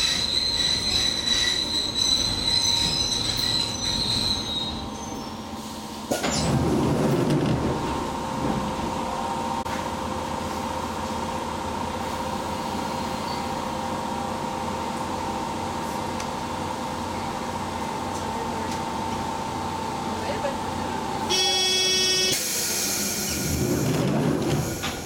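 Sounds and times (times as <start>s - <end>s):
train equipment low rumble: 0.0s - 25.0s.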